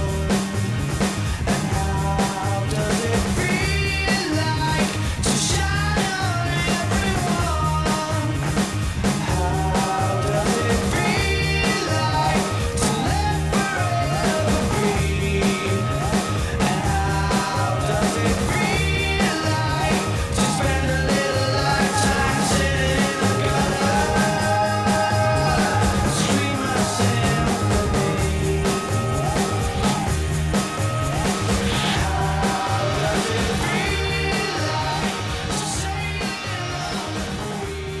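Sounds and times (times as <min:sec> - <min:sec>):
rock music with singing: 0:00.0 - 0:38.0.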